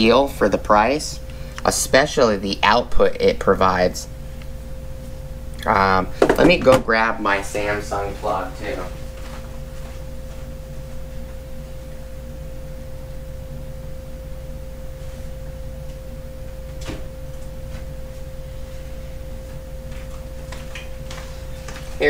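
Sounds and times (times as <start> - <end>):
low hum: 0.0 - 22.0
steady pure tone: 0.0 - 22.0.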